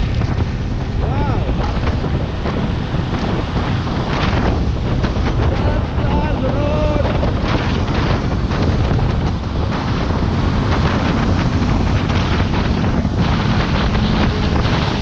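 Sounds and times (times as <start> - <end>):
motorcycle rumble: 0.0 - 15.0
wind buffeting microphone: 0.0 - 15.0.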